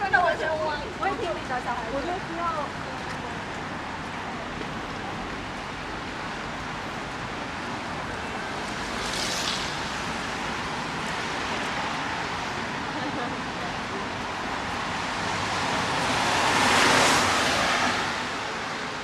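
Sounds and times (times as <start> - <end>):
rain on street: 0.0 - 19.0
traffic on wet road: 0.0 - 19.0.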